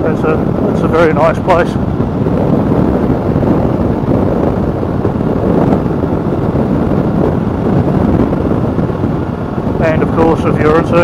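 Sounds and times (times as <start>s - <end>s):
motorcycle engine: 0.0s - 11.0s
road noise: 0.0s - 11.0s
wind rushing over microphone: 0.0s - 11.0s.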